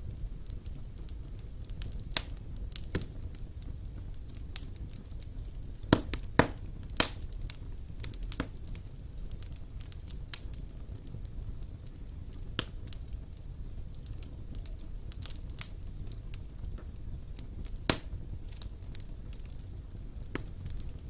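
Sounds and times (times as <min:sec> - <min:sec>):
fire rumble: 0:00.0 - 0:21.0
wood fire crackling and popping: 0:00.0 - 0:21.0.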